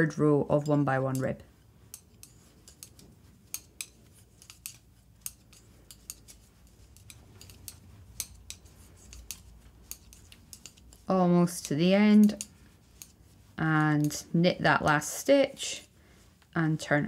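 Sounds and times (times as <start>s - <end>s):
knitting needles clicking: 0.5s - 15.3s.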